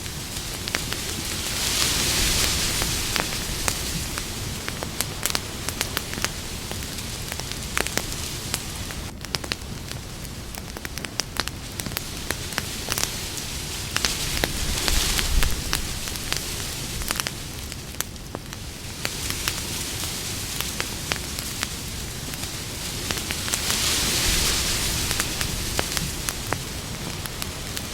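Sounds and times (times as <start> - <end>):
campfire hissing: 0.0 - 27.9
crackles and pops of burning wood: 0.0 - 27.9.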